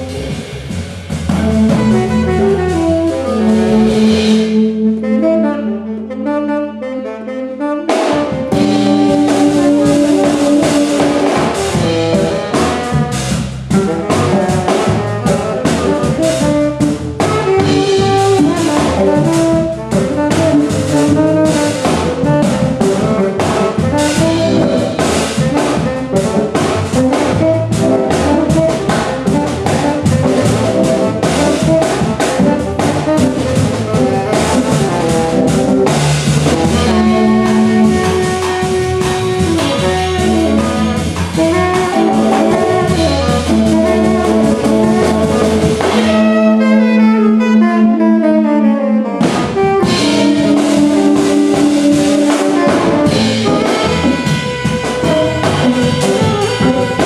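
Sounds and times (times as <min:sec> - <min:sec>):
drum kit: 0:00.0 - 0:57.0
guitar: 0:00.0 - 0:57.0
tenor saxophone melody: 0:00.0 - 0:57.0.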